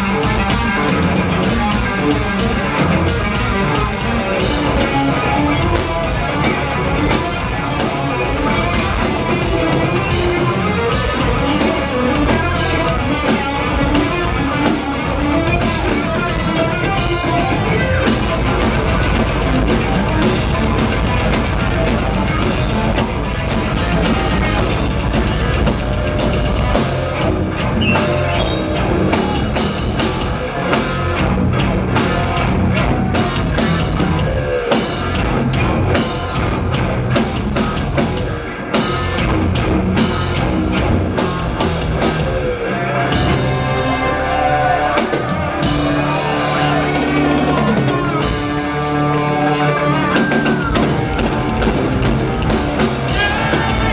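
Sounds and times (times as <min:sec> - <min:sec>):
live metal band playing loudly: 0:00.0 - 0:53.9.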